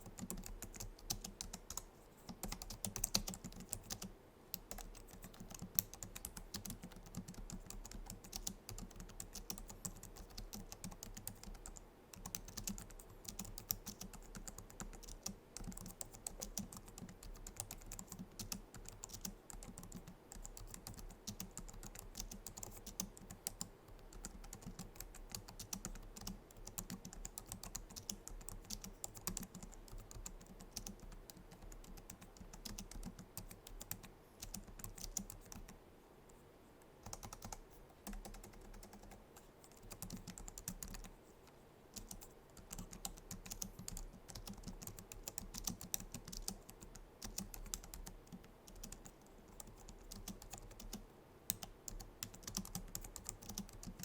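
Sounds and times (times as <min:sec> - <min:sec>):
soft keyboard typing clicks: 0:00.0 - 0:54.0.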